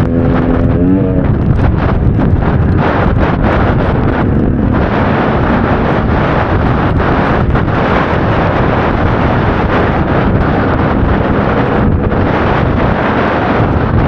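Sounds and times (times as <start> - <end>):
motorcycle engine: 0.0 - 14.0
wind buffeting microphone: 0.0 - 14.0.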